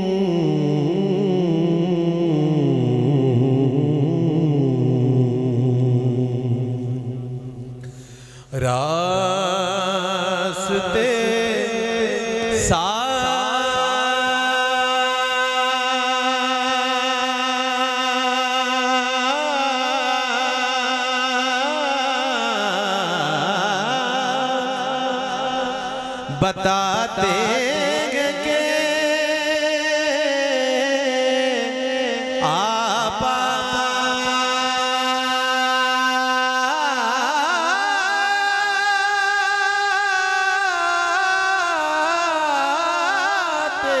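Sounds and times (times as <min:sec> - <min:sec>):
man singing into microphone: 0:00.0 - 0:44.0.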